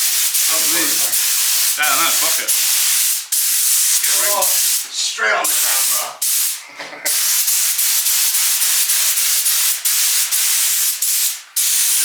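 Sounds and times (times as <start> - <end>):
paint spray gun hissing: 0.0 - 4.9, 5.5 - 12.0.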